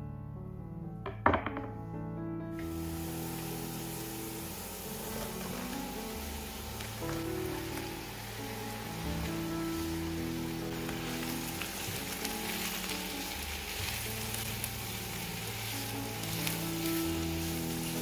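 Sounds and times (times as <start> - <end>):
soft background music: 0.0 - 18.0
mushrooms sizzling in oil: 2.6 - 18.0.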